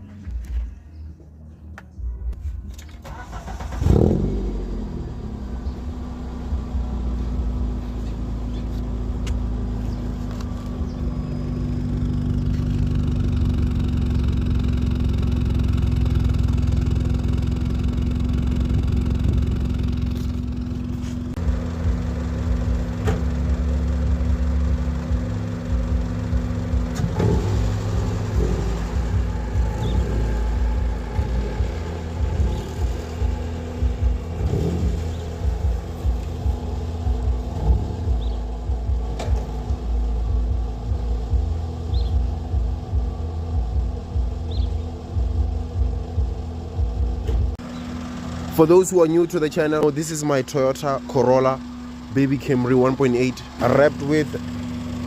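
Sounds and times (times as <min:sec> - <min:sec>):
car engine starting and running: 0:02.0 - 0:55.0.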